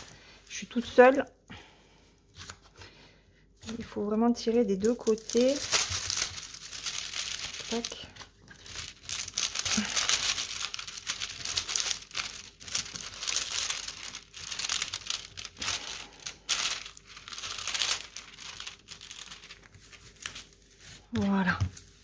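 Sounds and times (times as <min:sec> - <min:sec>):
plastic film crinkling and rustling: 0:00.0 - 0:01.2, 0:03.6 - 0:22.0.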